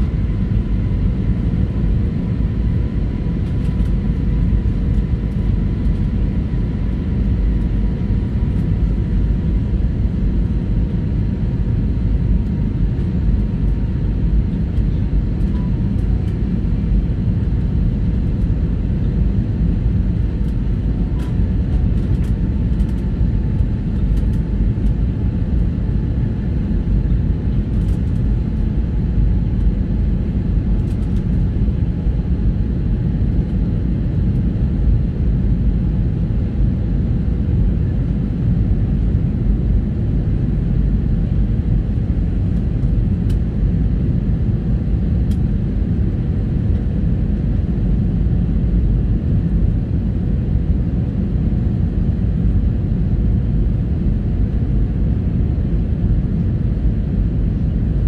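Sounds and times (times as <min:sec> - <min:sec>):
faint high hum: 0:00.0 - 0:55.6
jet engines and rushing air rumble: 0:00.0 - 0:58.0.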